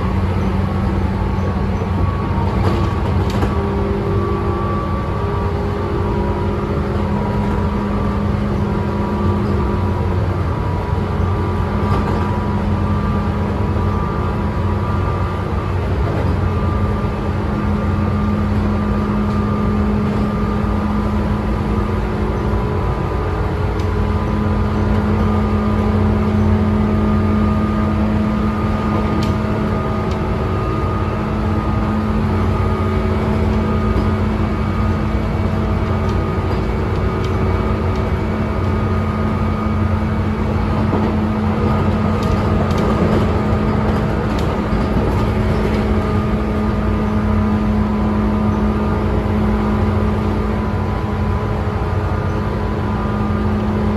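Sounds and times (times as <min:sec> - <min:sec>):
humming traction motor tones: 0:00.0 - 0:53.9
train wheels rumbling on rail: 0:00.0 - 0:53.9.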